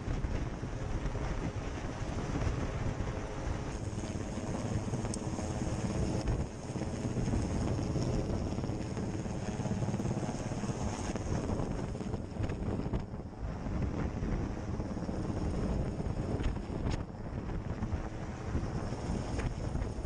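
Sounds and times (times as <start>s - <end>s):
helicopter rotor and engine: 0.0s - 20.0s
wind buffeting microphone: 0.0s - 20.0s.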